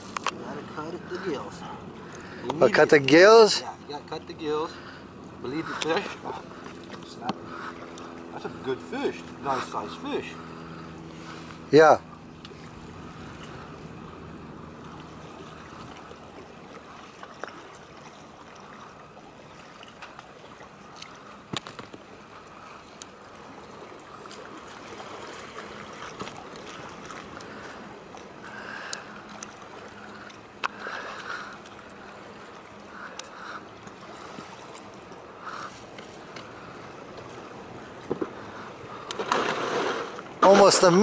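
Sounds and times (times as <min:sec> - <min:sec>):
water lapping against rocks: 0:00.0 - 0:41.0.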